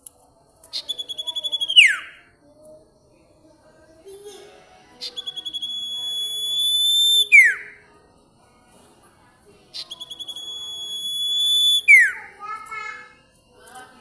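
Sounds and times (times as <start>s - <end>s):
songbird singing: 0.0s - 8.2s, 9.5s - 14.0s.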